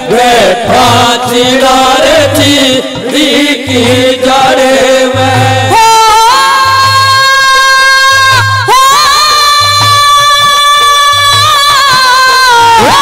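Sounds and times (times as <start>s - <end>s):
singers holding long notes: 0.0s - 13.0s.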